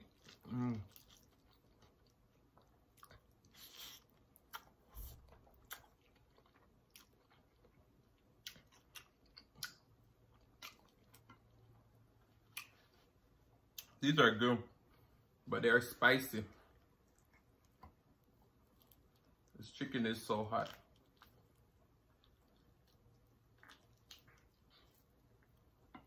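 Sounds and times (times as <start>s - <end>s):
chewing noodles: 0.0s - 14.0s, 16.7s - 19.6s, 20.5s - 26.0s.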